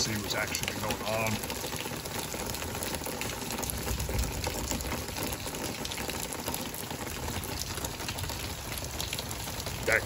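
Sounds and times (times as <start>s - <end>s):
heavy rain hissing: 0.0s - 10.0s
raindrops pattering on concrete: 0.0s - 10.0s.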